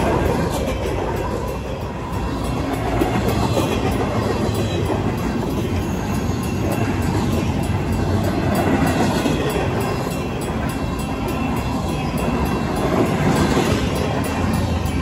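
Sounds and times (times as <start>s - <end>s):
crossing warning bell ringing: 0.0s - 15.0s
train wheels rumbling: 0.0s - 15.0s
wheels clacking over rail joints: 0.0s - 15.0s.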